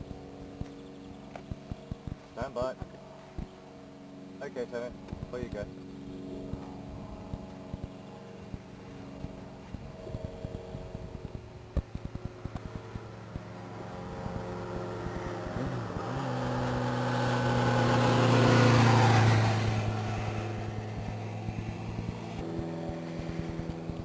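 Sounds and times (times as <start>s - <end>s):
passing vehicle: 0.0s - 24.0s
vehicle engine humming: 0.0s - 24.0s.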